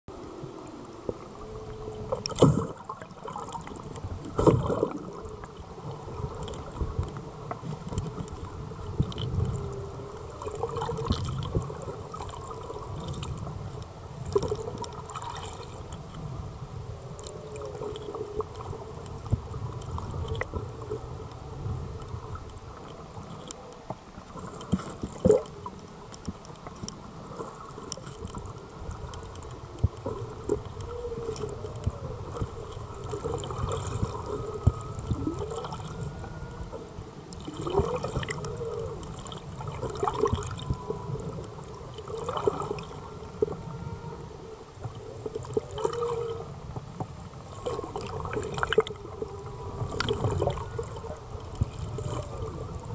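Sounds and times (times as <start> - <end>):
underwater rumble and wash: 0.1 - 52.9.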